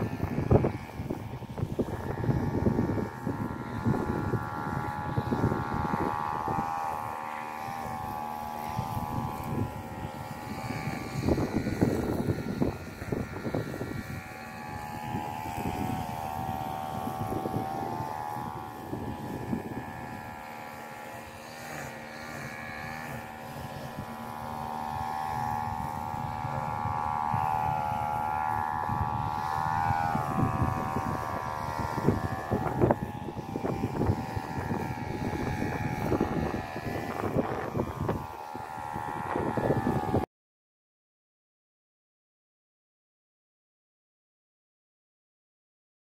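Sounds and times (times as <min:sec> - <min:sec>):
engine drone: 0:00.0 - 0:40.3.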